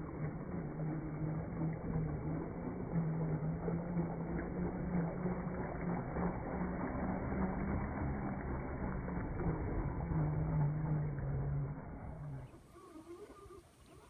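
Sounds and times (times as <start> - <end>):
toy truck motor hum: 0.0 - 14.0.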